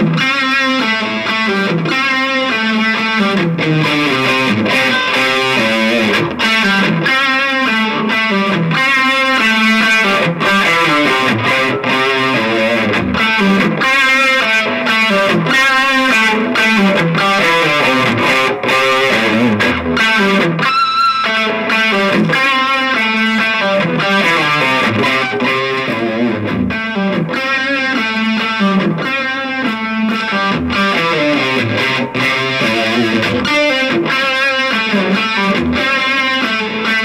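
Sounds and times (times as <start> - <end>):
distorted electric guitar: 0.0 - 37.0.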